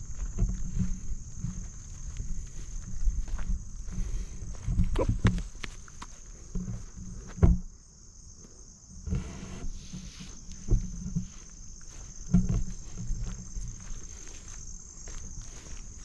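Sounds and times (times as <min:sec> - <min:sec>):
footsteps on trail: 0:00.0 - 0:07.4, 0:09.9 - 0:16.0
insects trilling: 0:00.0 - 0:16.0.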